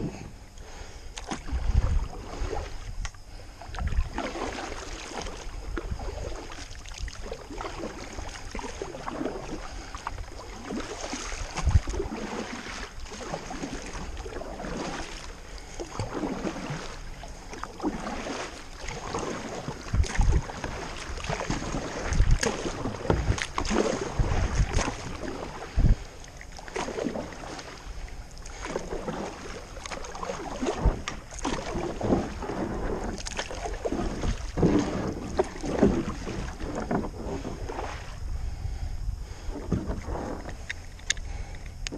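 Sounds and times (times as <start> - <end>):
paddle strokes splashing in water: 0.0 - 41.9.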